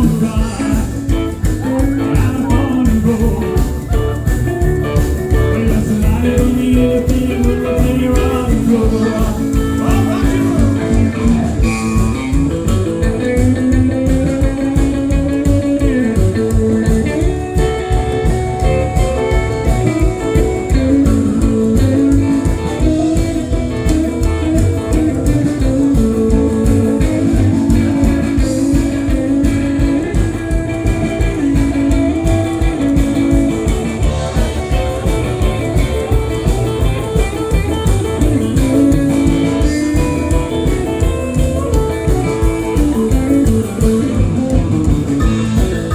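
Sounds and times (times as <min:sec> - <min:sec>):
bass: 0:00.0 - 0:45.9
drum beat: 0:00.0 - 0:45.9
lead guitar: 0:00.0 - 0:45.9
live band playing: 0:00.0 - 0:45.9.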